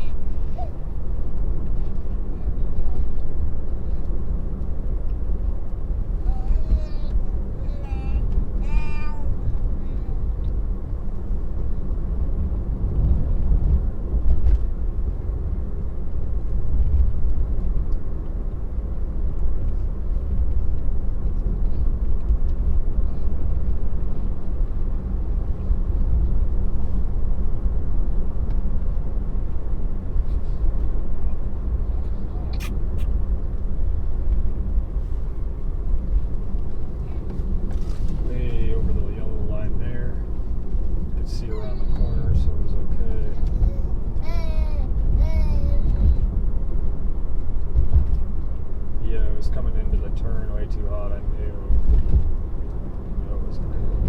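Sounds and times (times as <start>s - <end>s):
tyre and road rumble: 0.0s - 54.0s.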